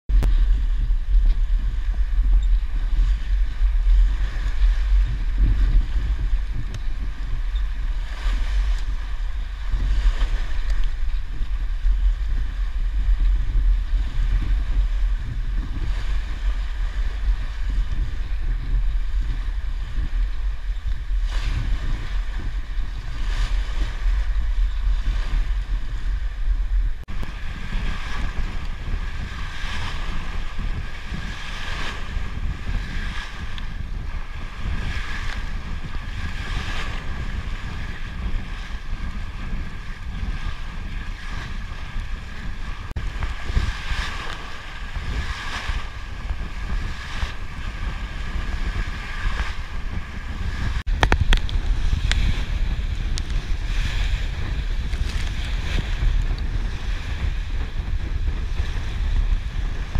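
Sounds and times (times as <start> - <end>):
wind rumble on microphone: 0.0 - 59.9
water splashing along boat hull: 0.1 - 59.9.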